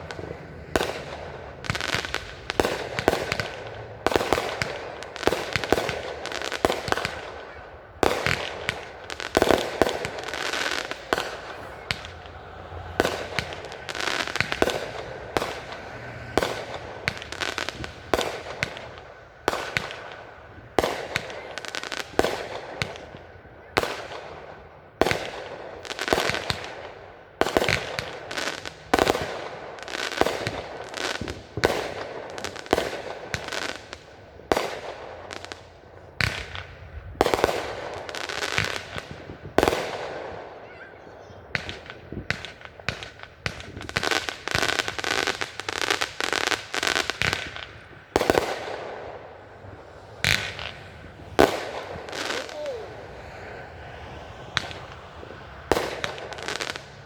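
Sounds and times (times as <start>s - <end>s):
fireworks bangs with crackling: 0.0s - 57.0s.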